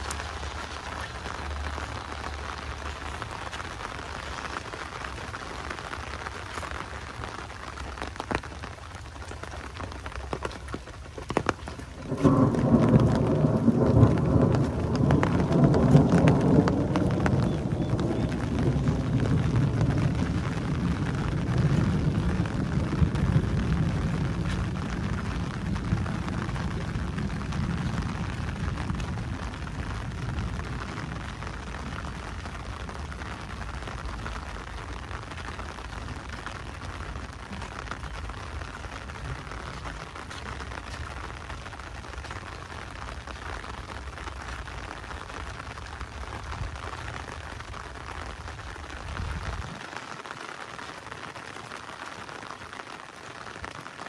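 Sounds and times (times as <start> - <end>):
thunder rumbling: 0.0 - 49.9
heavy rain: 0.0 - 54.0.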